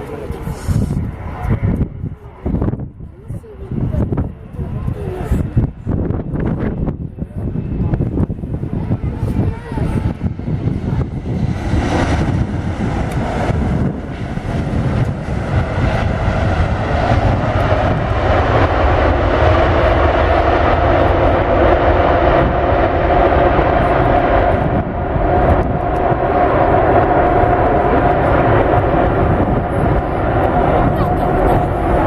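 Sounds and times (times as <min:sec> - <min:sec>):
jet engine whine: 0:00.0 - 0:32.0
jet engines rumbling: 0:00.0 - 0:32.0.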